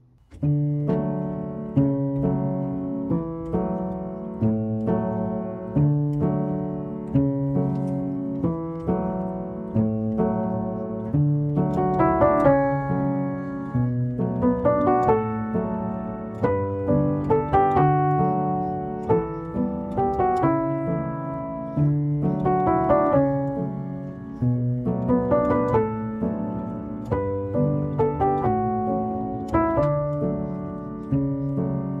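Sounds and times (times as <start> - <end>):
gentle piano piece: 0.0 - 32.0.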